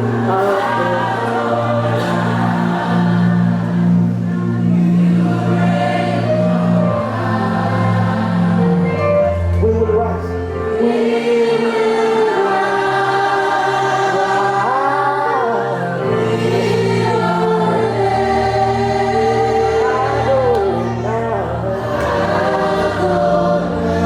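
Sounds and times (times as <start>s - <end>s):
gospel choir singing: 0.0s - 24.0s.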